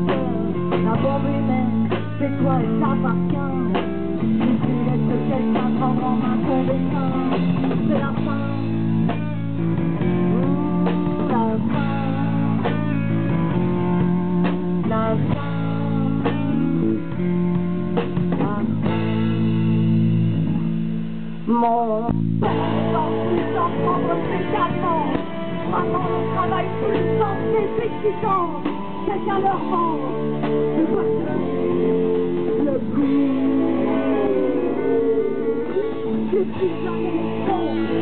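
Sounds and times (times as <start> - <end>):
electric lead guitar bending notes: 0.0 - 38.0
rock band playing: 0.0 - 38.0.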